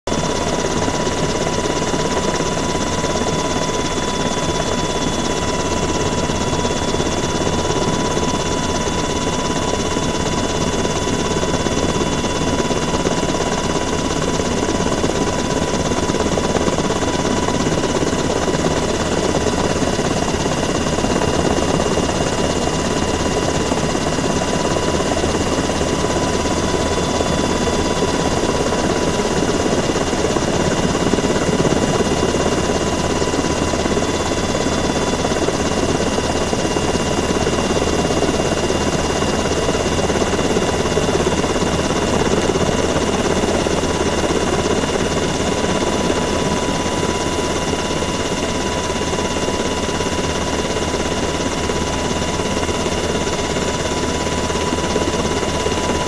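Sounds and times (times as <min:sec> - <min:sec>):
helicopter engine and rotor drone: 0:00.0 - 0:56.0
high turbine whine: 0:00.1 - 0:56.0.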